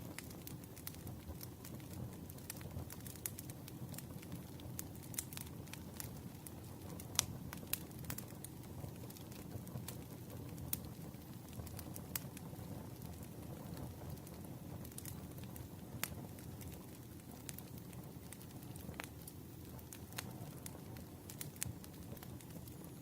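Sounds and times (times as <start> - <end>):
burning wood popping: 0.0 - 23.0
low rumble of flames: 0.0 - 23.0.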